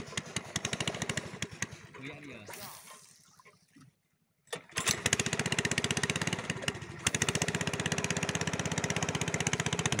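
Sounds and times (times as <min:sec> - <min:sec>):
boat engine running: 0:00.0 - 0:03.7, 0:04.5 - 0:10.0.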